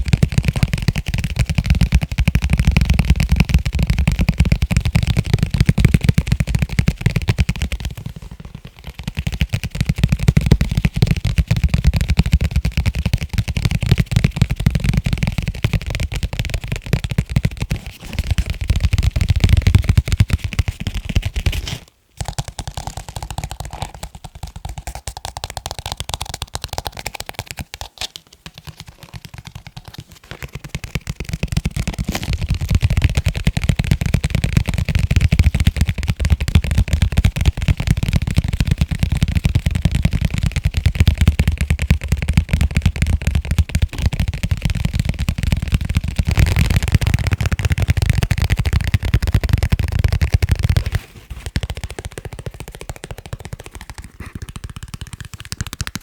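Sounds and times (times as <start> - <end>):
rapid tapping on leather cases: 0.0 - 21.5, 22.2 - 56.0.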